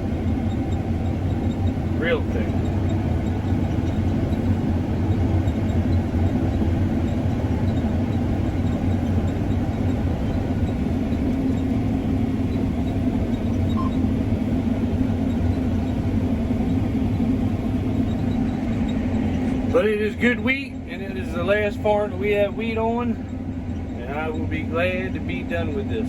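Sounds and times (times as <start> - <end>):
combine harvester engine rumble: 0.0 - 26.0.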